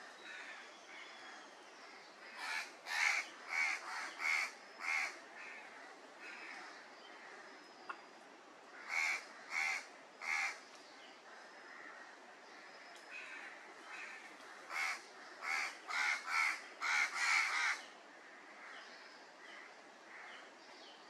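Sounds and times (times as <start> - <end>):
faint outdoor background: 0.0 - 21.0
harsh bird calls: 1.9 - 8.0, 8.7 - 20.5.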